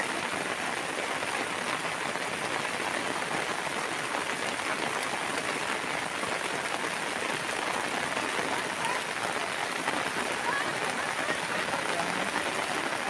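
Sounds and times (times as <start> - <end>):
heavy rain on bushes: 0.0 - 13.0.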